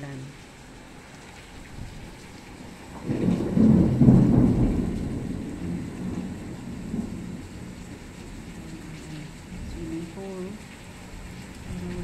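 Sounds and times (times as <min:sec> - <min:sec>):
heavy rain hiss: 0:00.0 - 0:12.0
thunderclap rumbling: 0:01.7 - 0:12.0.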